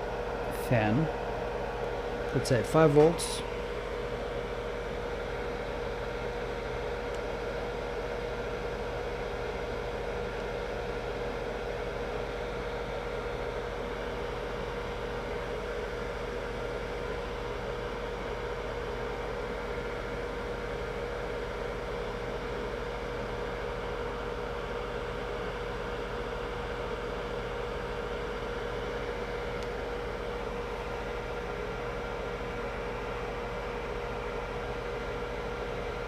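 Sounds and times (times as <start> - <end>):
fans whirring: 0.0 - 36.0.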